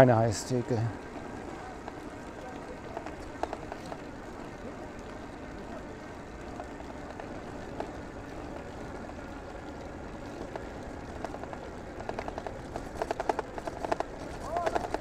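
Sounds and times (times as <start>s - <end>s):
road and wind noise in vehicle: 0.0s - 15.0s
faint ticks: 0.4s - 15.0s.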